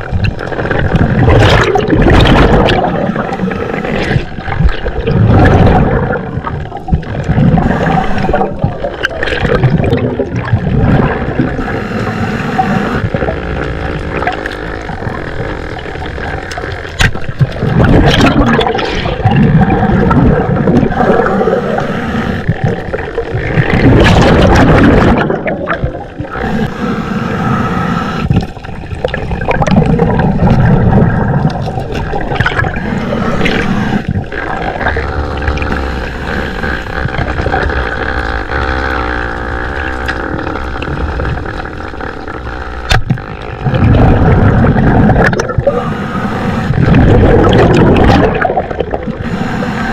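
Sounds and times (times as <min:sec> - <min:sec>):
water rushing and gurgling underwater: 0:00.0 - 0:49.9
steady low hum: 0:01.0 - 0:49.9.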